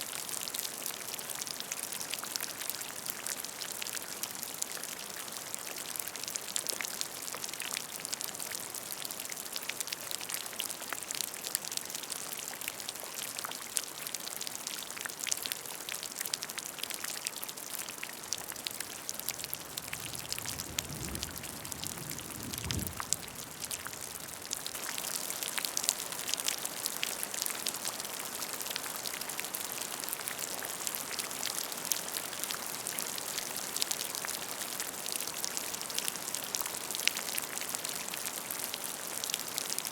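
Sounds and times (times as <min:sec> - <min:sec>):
rain falling on a puddle: 0:00.0 - 0:39.9.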